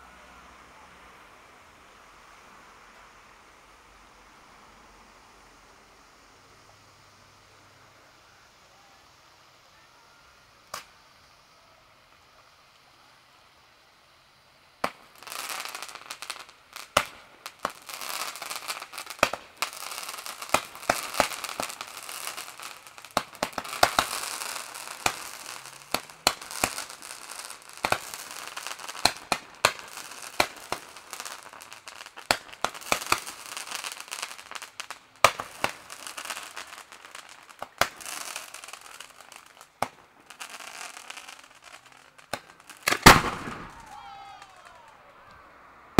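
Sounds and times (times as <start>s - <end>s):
fireworks crackling and banging: 5.2s - 45.9s.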